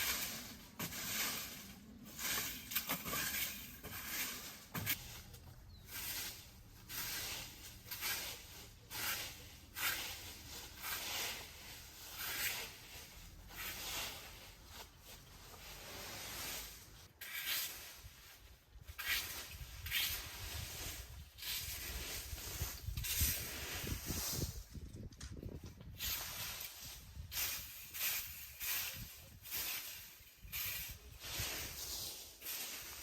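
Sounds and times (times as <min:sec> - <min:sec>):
rough scraping strokes: 0:00.0 - 0:24.8, 0:25.9 - 0:33.0.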